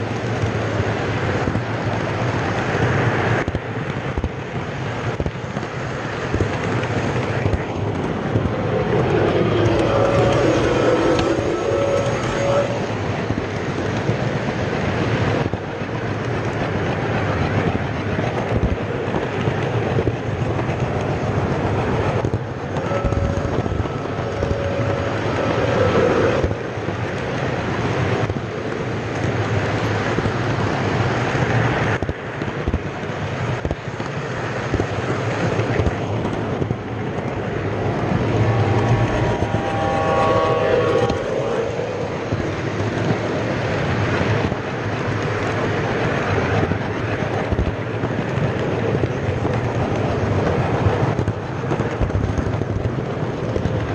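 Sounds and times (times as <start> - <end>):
model train rumbling on rails: 0.0 - 53.9.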